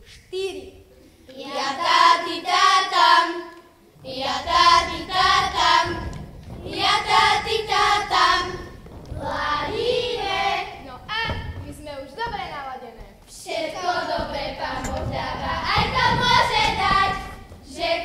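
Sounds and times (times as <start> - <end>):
boys singing unaccompanied: 1.3 - 12.4, 13.1 - 18.0.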